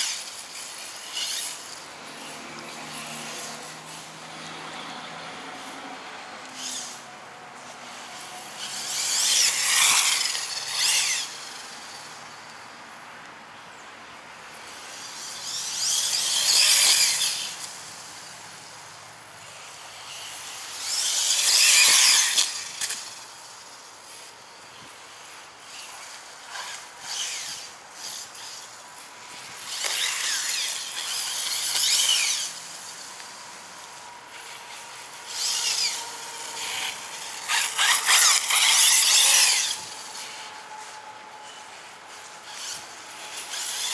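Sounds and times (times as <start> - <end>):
rc car electric motor whining: 0.0 - 5.7, 6.4 - 12.7, 14.5 - 43.9.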